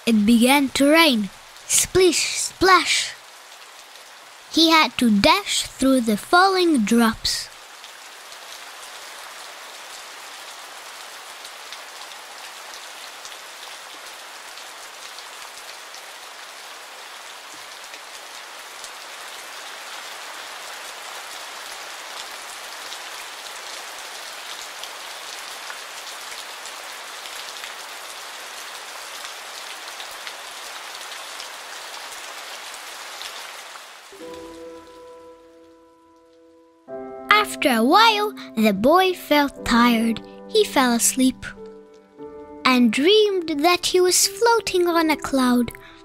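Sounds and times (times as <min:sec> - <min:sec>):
steady rain on leaves: 0:00.0 - 0:46.0.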